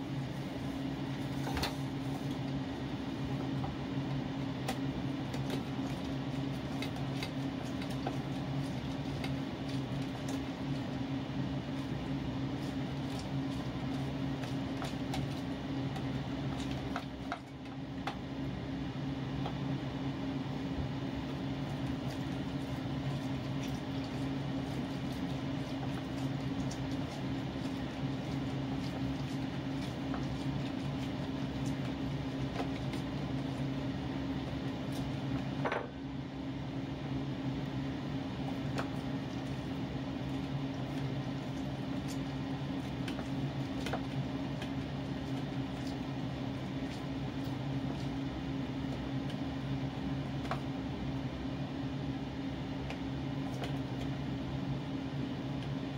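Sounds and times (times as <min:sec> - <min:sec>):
orange squelching on juicer: 0:00.0 - 0:35.6, 0:36.6 - 0:55.9
low machine hum: 0:00.0 - 0:55.9.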